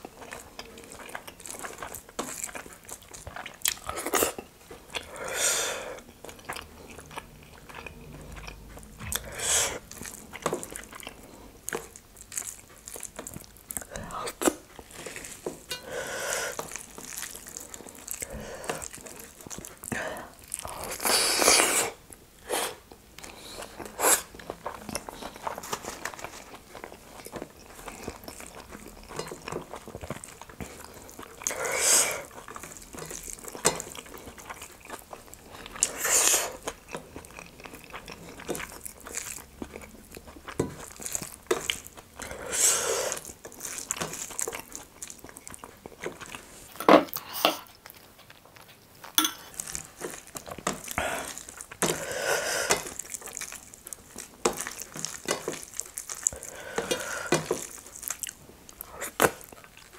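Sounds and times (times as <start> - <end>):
chewing: 0.0 - 22.1, 22.7 - 59.9.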